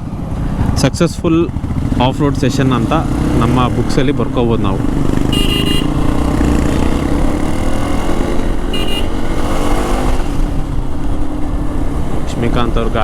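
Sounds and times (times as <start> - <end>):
motorcycle engine rumble: 0.0 - 13.0
road and wind noise: 0.0 - 13.0.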